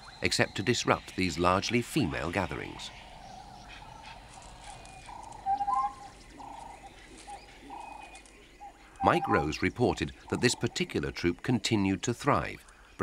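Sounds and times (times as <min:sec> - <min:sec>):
faint natural background: 0:00.0 - 0:13.0.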